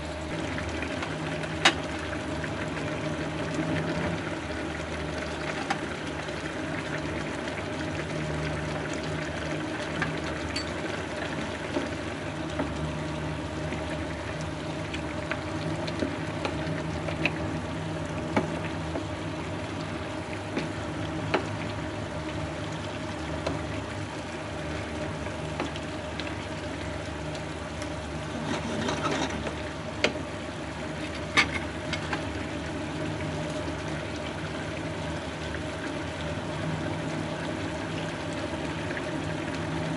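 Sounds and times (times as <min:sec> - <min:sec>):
sauce bubbling in frying pan: 0:00.0 - 0:39.9.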